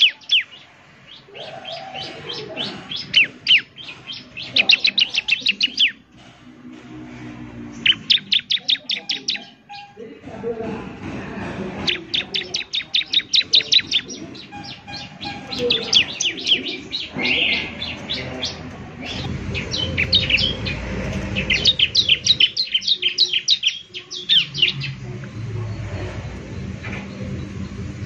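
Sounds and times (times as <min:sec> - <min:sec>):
bird chirping rapidly: 0:00.0 - 0:06.1, 0:07.7 - 0:10.0, 0:11.8 - 0:28.0.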